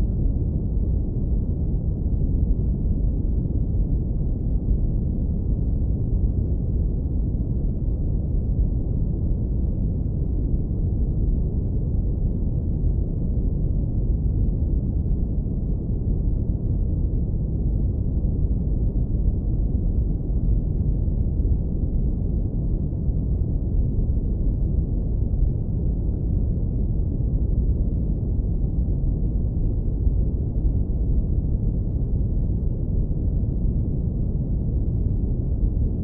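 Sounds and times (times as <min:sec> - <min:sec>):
deep rumbling brown noise: 0:00.0 - 0:36.0.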